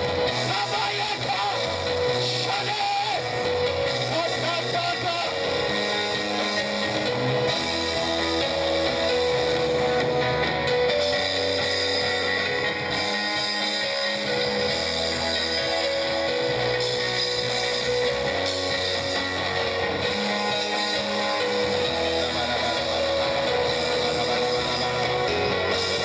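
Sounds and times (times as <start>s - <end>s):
live worship band music: 0.0s - 26.0s.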